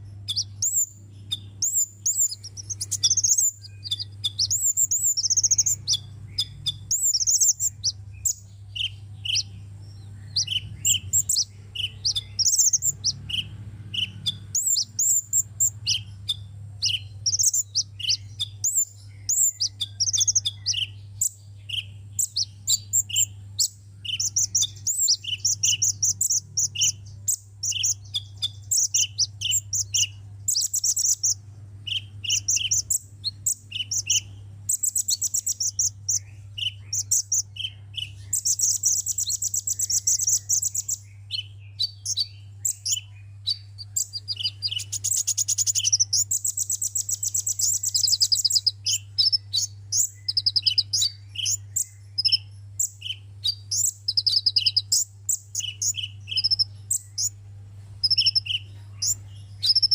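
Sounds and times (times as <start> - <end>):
bird chirping and trilling: 0.0 - 57.4, 58.0 - 59.9.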